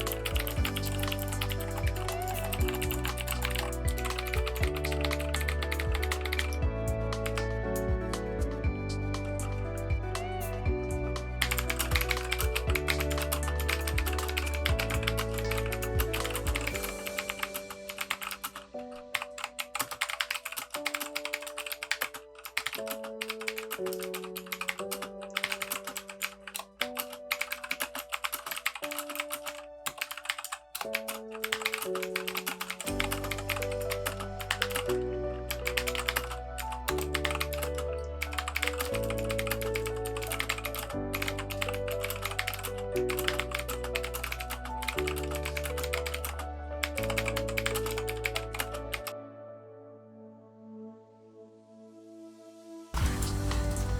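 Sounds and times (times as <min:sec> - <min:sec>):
mechanical keyboard typing: 0:00.0 - 0:08.3, 0:11.4 - 0:49.1
background music: 0:00.0 - 0:53.9.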